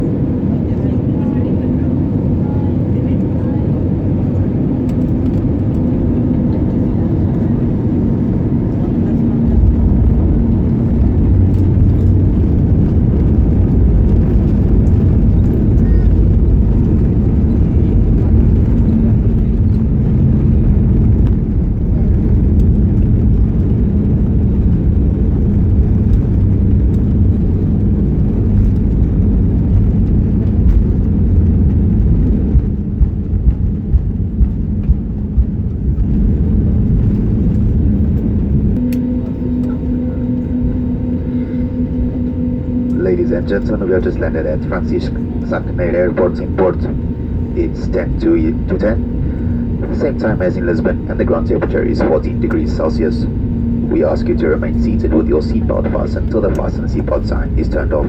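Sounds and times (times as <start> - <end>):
engines and wheels rumbling: 0.0 - 58.0
faint hum: 0.0 - 58.0.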